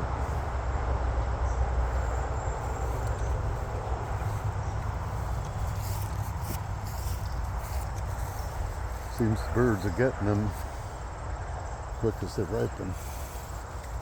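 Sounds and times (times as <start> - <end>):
wind buffeting microphone: 0.0 - 14.0
insects trilling: 1.7 - 14.0.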